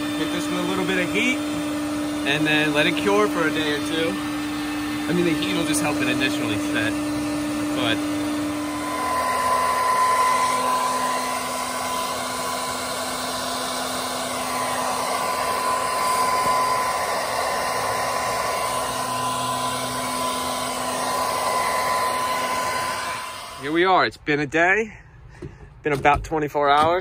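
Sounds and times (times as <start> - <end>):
hair dryer blowing: 0.0 - 24.1.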